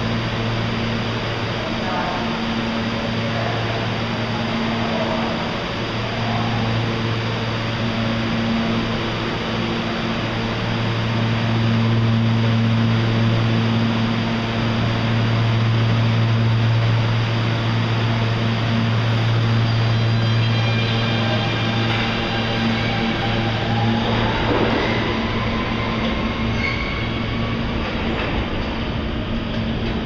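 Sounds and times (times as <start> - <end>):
subway train rumbling in tunnel: 0.0 - 30.0.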